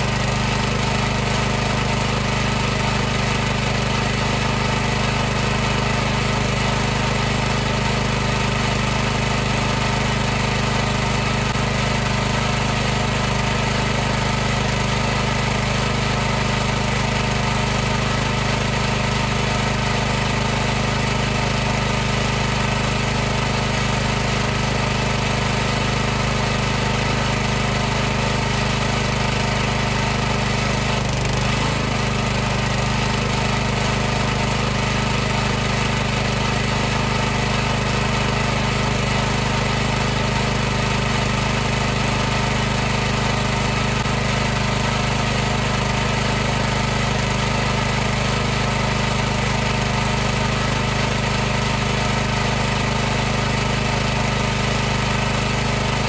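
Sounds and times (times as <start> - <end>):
pressure washer running: 0.0 - 56.0.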